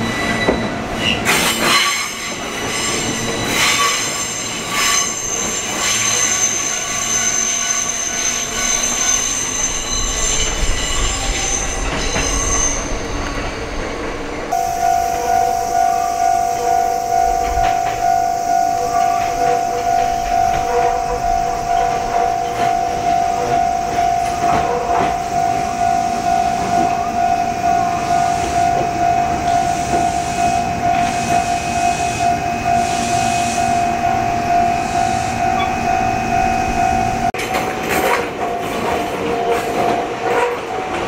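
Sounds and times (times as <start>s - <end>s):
train wheels squealing: 0.0s - 37.3s.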